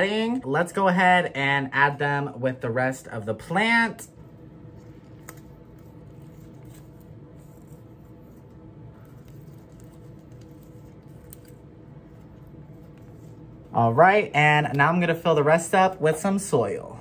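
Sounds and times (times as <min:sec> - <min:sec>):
steady faint hum: 0:00.0 - 0:17.0.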